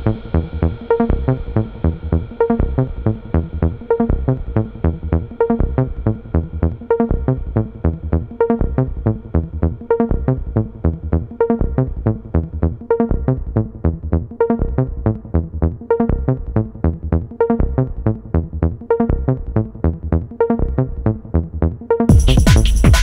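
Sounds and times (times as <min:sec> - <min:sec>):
electronic music with plucked notes: 0:00.0 - 0:23.0.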